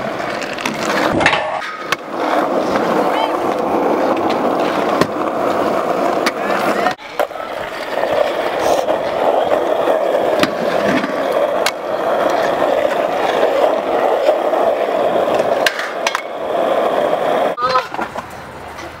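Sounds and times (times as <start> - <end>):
scooter wheels rolling on concrete: 0.0 - 19.0
scooter clacking on ledges: 0.4 - 16.4.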